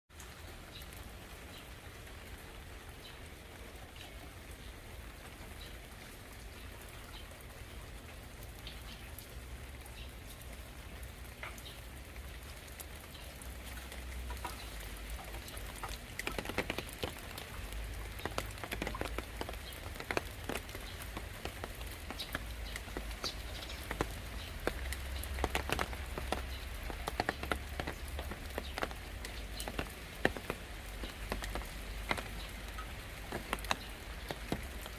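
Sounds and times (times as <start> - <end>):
raindrops striking: 0.1 - 34.9.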